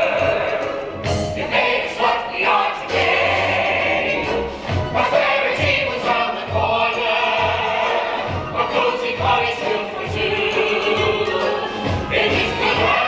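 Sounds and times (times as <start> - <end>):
chorus singing: 0.0 - 13.0
pit band playing: 0.0 - 13.0.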